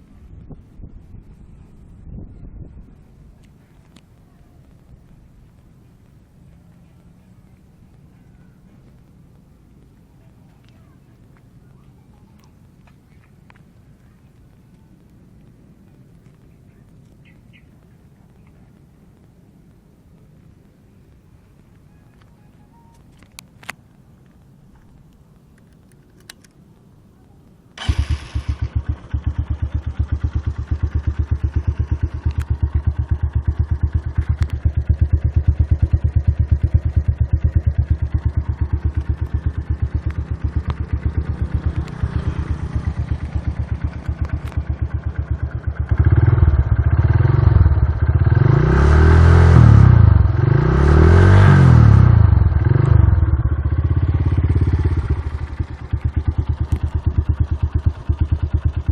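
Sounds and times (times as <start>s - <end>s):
motorcycle engine idling and revving: 0.0s - 18.6s, 27.8s - 58.9s.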